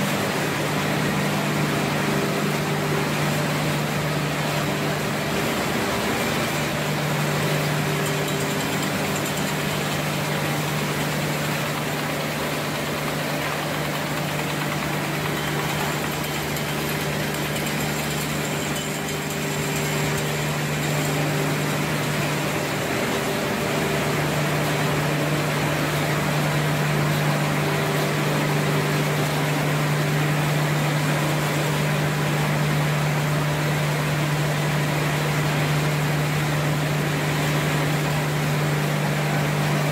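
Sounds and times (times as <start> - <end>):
production line machinery: 0.0 - 39.9.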